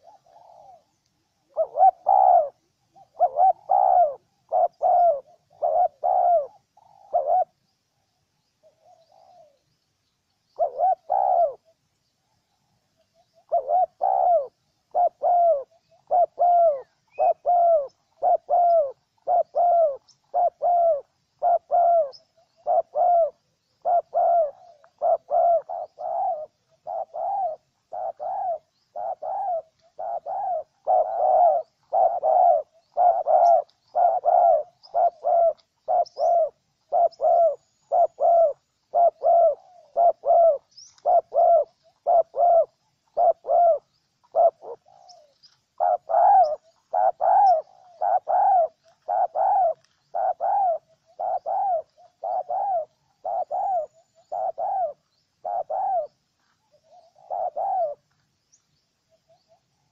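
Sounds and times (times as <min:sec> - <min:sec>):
dove cooing: 0:00.0 - 0:09.7, 0:10.5 - 0:59.9.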